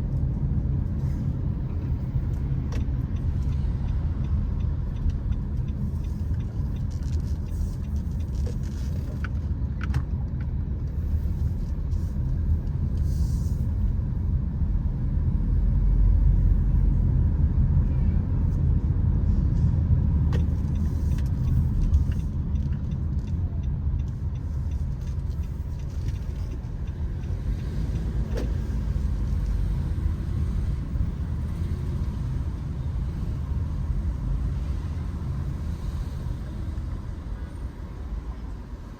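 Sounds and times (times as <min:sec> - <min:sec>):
low rumble of moving car: 0:00.0 - 0:38.9.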